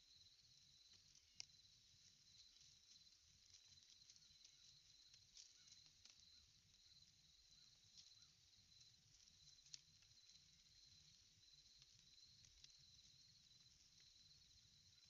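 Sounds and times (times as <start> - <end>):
insect chorus trilling: 0.0 - 15.0
faint clicks: 0.9 - 6.9, 7.9 - 14.2.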